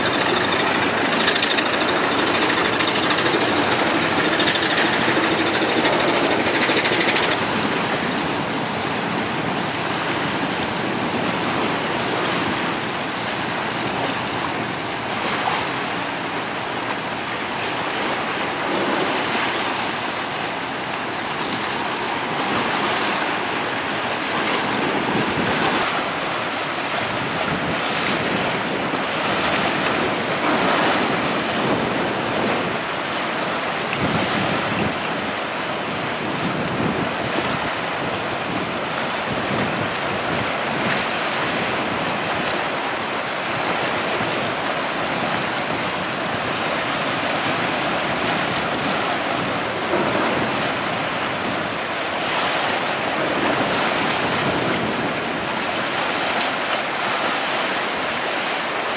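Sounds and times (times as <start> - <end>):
wind buffeting microphone: 0.0 - 15.1, 21.2 - 56.8
choppy sea water: 0.0 - 58.9.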